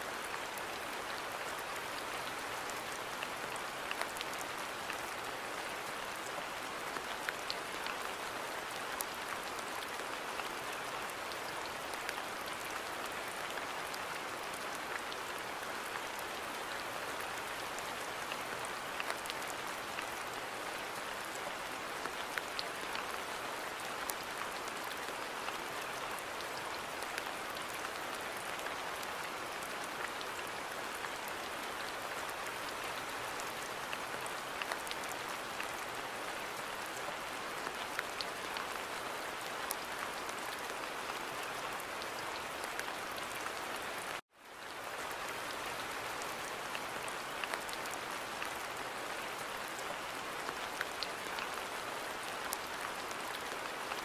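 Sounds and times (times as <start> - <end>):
rain falling in a garden: 0.0 - 54.0.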